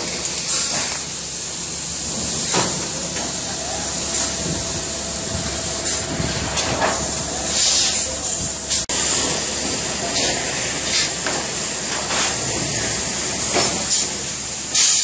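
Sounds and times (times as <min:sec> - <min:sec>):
tube bending machine hiss: 0:00.0 - 0:15.0
faint machine whine: 0:01.3 - 0:13.4.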